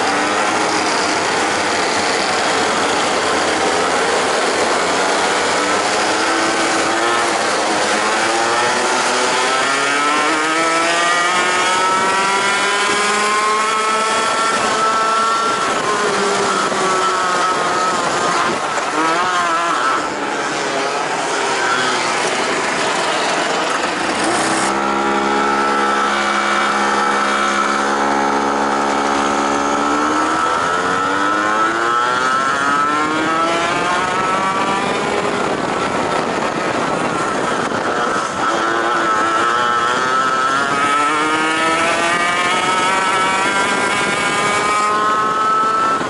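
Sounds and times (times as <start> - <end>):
kart engine at high revs: 0.0 - 46.0
other kart engines: 0.0 - 46.0.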